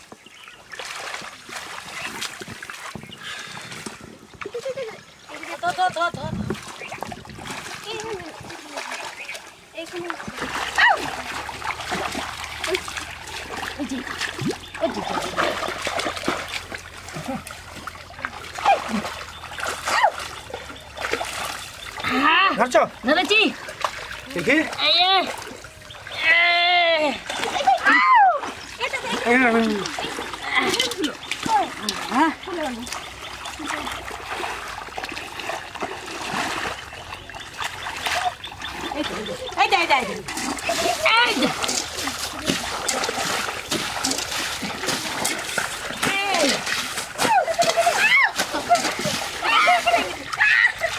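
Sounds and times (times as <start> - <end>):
hands splashing in muddy water: 0.0 - 50.9.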